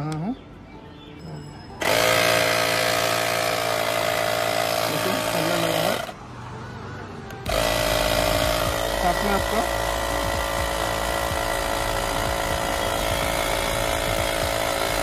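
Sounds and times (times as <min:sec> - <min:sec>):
air compressor buzzing: 0:01.8 - 0:06.2, 0:07.3 - 0:15.0.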